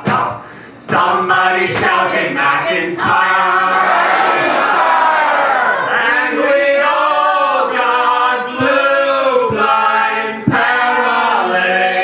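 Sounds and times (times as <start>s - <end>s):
voices singing in harmony: 0.8s - 12.0s.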